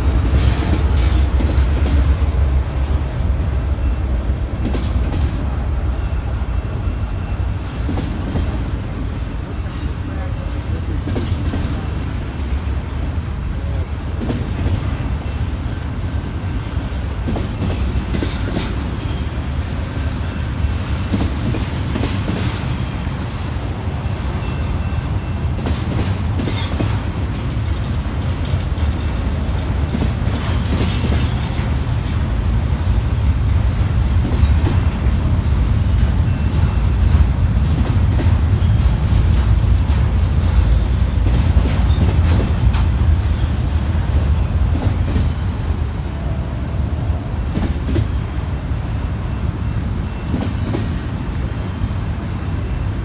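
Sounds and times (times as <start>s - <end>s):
train rumbling by: 0.0s - 53.0s.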